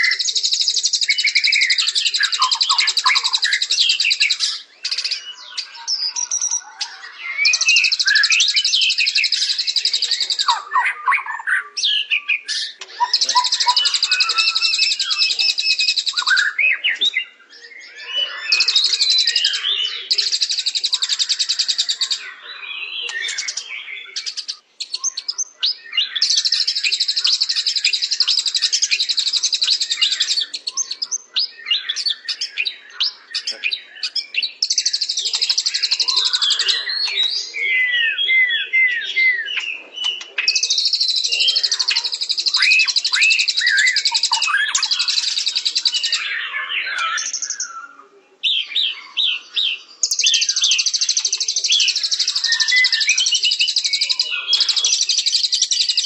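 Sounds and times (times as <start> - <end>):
songbird singing trills and whistles: 0.0 - 56.0.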